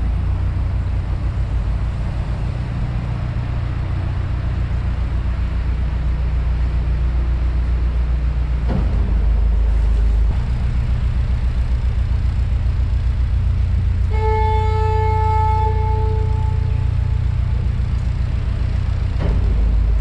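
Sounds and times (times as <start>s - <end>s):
diesel engine chugging: 0.0s - 20.0s.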